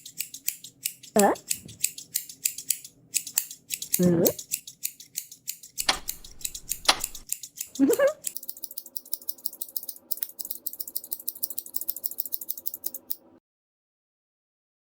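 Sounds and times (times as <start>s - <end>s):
metallic scissor snips: 0.0s - 13.2s.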